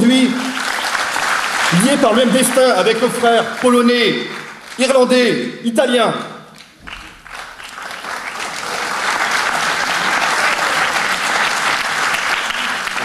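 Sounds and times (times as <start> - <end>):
audience applauding: 0.0 - 5.3, 6.6 - 13.0.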